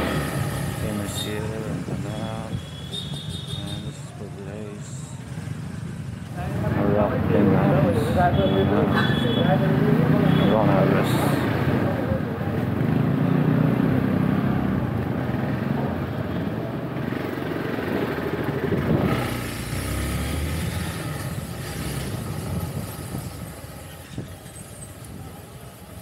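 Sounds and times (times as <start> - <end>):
other motorbikes: 0.0 - 26.0
street noise: 0.0 - 26.0.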